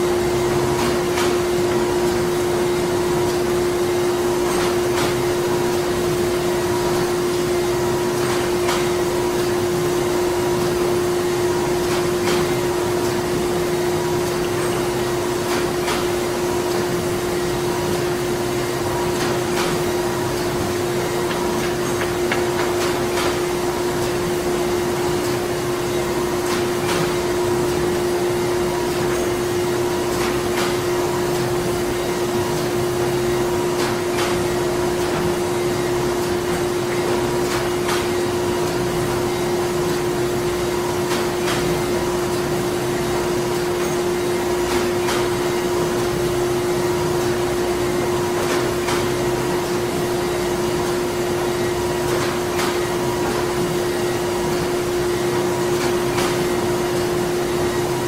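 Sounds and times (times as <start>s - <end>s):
machinery humming: 0.0s - 58.0s.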